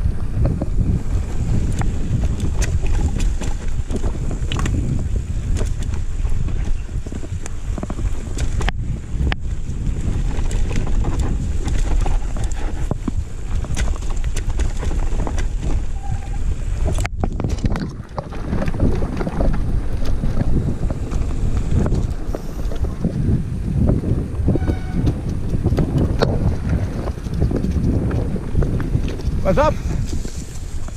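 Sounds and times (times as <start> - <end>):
mountain bike rattling on dirt trail: 0.0 - 30.9
wind on microphone: 0.0 - 30.9
bike knocks and clicks: 0.3 - 23.0, 23.9 - 29.4.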